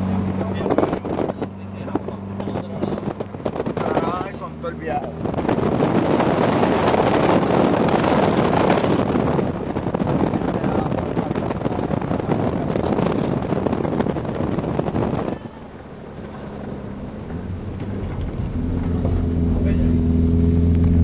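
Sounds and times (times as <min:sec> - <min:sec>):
car engine hum: 0:00.0 - 0:21.0
wind and road noise: 0:00.0 - 0:21.0.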